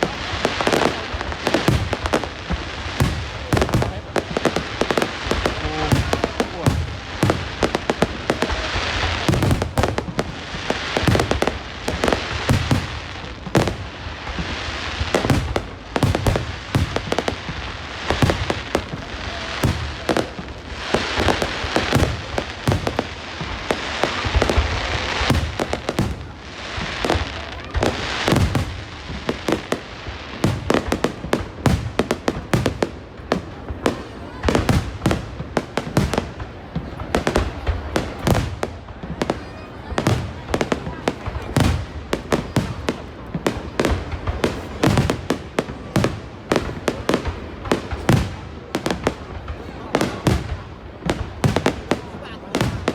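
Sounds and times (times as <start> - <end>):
fireworks crackling: 0.0 - 52.9.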